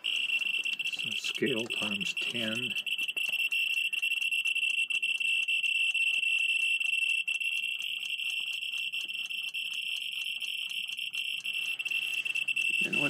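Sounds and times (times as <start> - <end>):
geiger counter clicking: 0.0 - 13.0.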